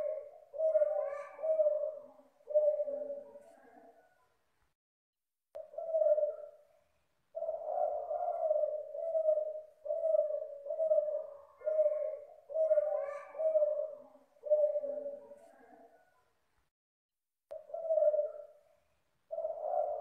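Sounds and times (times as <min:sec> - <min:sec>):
dove cooing: 0:00.0 - 0:04.2, 0:05.6 - 0:16.1, 0:17.5 - 0:20.0.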